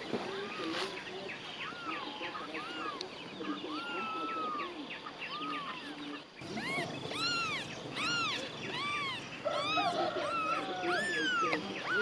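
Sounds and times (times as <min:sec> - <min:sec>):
newborn kittens mewing: 0:01.6 - 0:03.0, 0:03.6 - 0:12.0.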